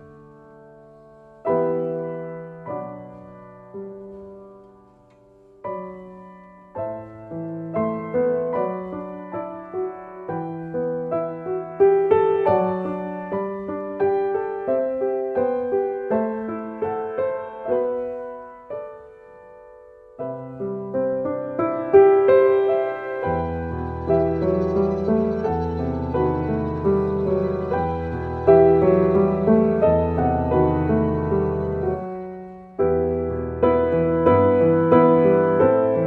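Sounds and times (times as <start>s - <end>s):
slow solo piano music: 0.0s - 36.0s.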